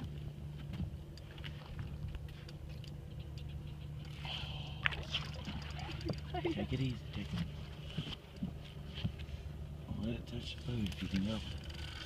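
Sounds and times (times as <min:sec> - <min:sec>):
idling boat motor hum: 0:00.0 - 0:12.0.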